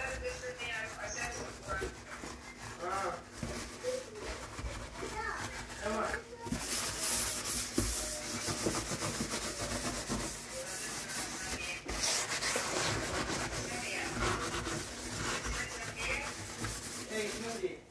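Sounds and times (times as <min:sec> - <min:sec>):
scrubbing steel sink: 0:00.0 - 0:17.9.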